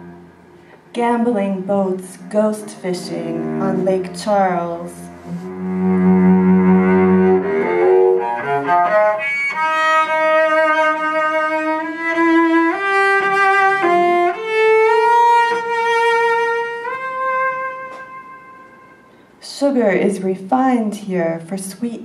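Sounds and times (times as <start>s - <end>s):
bowed cello: 0.0s - 19.1s.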